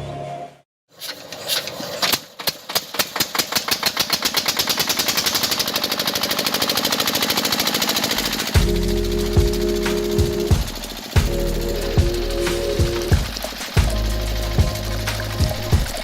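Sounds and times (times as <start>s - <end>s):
small engine starting: 1.0s - 16.0s.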